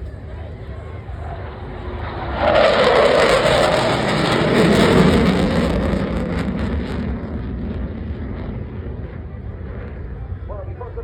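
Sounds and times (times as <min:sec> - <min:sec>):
jet engines roaring past: 0:00.0 - 0:11.0.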